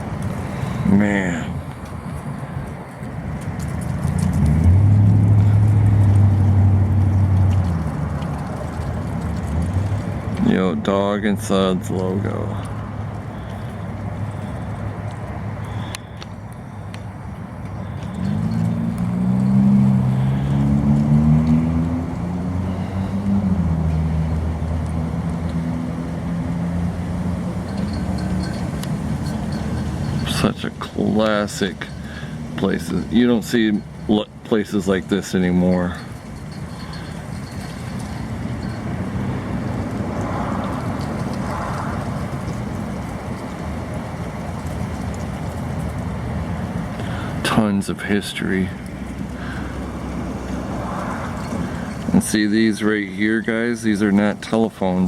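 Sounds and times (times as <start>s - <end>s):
road noise: 0.0s - 55.0s
vehicle engine passing by: 3.4s - 10.8s, 17.5s - 54.1s.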